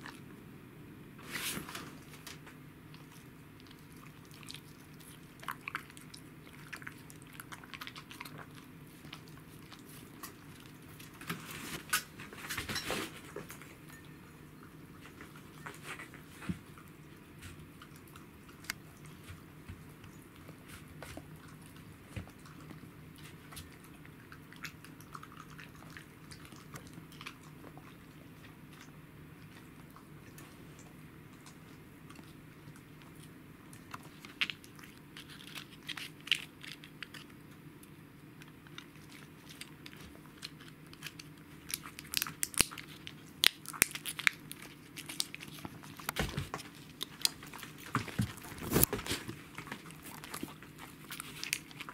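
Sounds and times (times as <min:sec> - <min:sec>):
low steady hum: 0:00.0 - 0:51.9
dog chewing and licking: 0:01.9 - 0:51.9.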